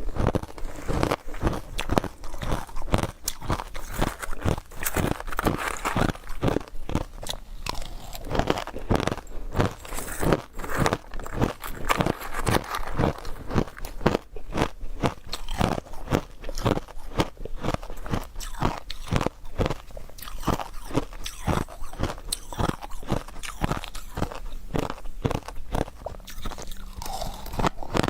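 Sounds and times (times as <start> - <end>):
ice being chewed: 0.0 - 28.0.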